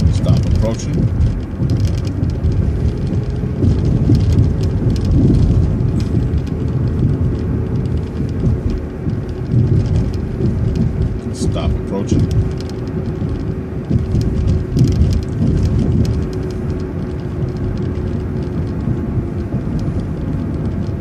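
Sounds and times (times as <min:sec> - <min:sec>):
bus engine and road rumble: 0:00.0 - 0:21.0
faint constant whine: 0:00.0 - 0:21.0
light rattles: 0:00.0 - 0:21.0.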